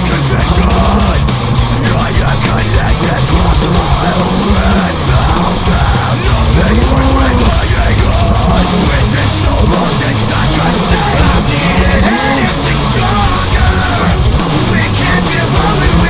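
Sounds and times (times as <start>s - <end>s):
heavy metal music with drums: 0.0s - 16.0s.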